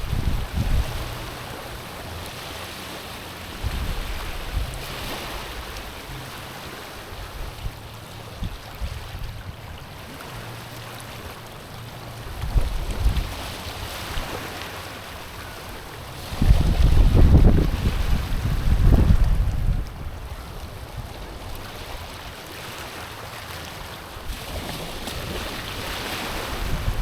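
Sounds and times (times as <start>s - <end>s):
waves washing over pebbles: 0.0s - 27.0s
wind rumble on microphone: 0.0s - 27.0s.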